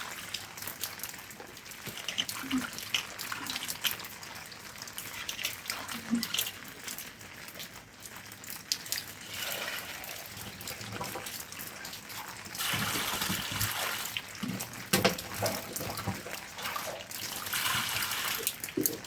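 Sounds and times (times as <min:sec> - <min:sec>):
water running and trickling: 0:00.0 - 0:19.0.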